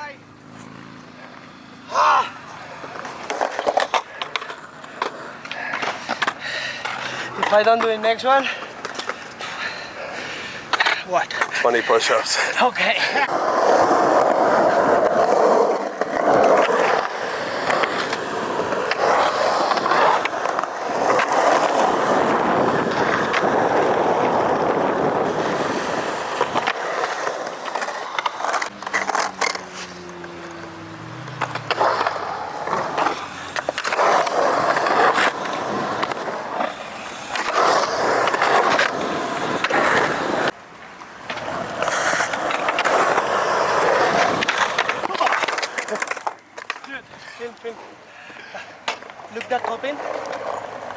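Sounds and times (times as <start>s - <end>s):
skateboard wheels rolling on concrete: 0.0s - 50.9s
skateboard clacking on ground: 2.6s - 9.5s, 10.6s - 50.9s.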